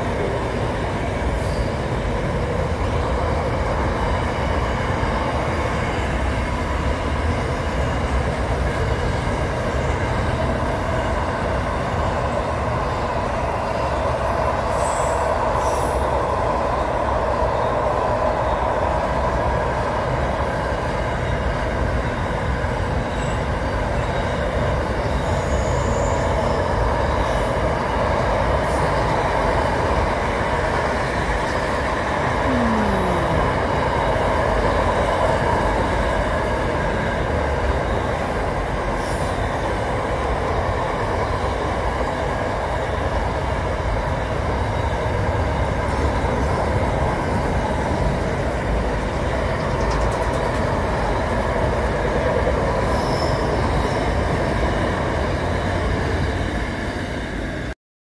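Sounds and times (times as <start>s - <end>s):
train wheels whining: 0.0s - 57.7s
freight train wheels rumbling: 0.0s - 57.8s.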